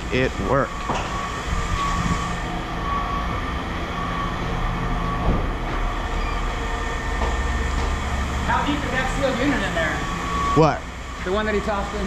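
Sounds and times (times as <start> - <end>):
faint machine whine: 0.0 - 12.0
heavy machinery rumbling: 0.0 - 12.0.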